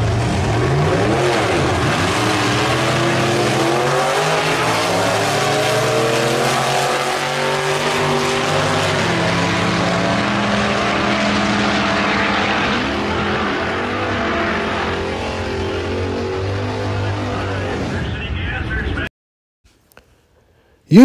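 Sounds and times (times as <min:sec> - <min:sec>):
drag cars at full throttle: 0:00.0 - 0:19.1.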